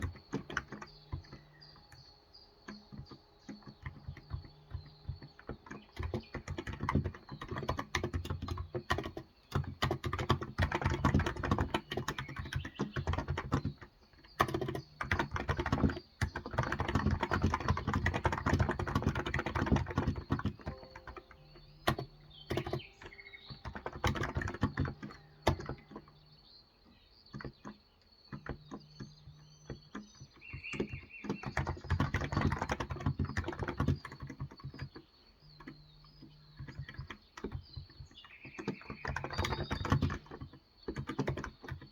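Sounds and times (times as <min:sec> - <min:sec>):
keyboard typing: 0:00.0 - 0:41.9.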